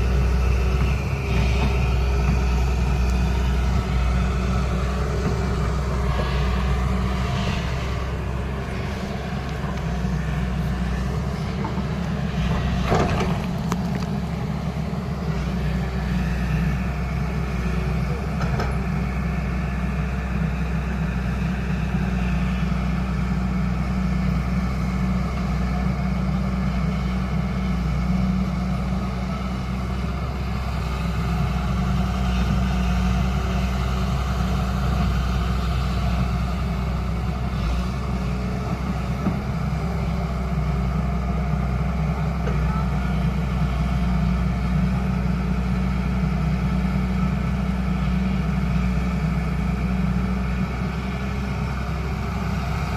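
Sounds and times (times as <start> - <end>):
excavator diesel engine droning: 0.0 - 52.9.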